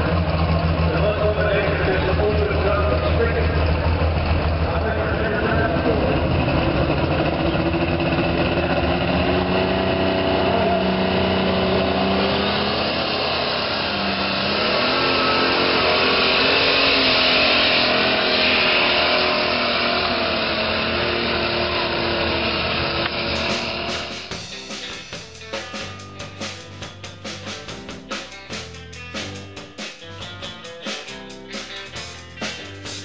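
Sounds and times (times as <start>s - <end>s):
tractor diesel engine at high revs: 0.0s - 33.0s.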